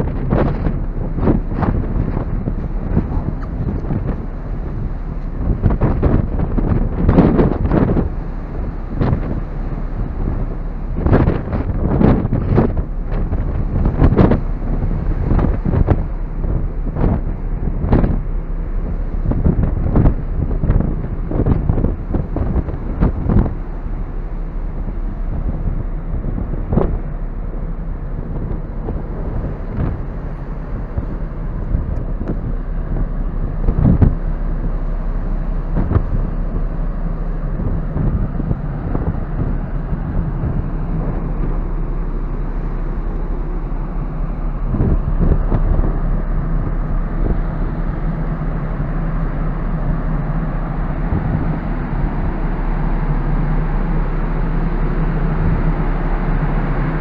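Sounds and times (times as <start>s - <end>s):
ship engine drone: 0.0s - 57.0s
wind rushing over microphone: 0.0s - 57.0s.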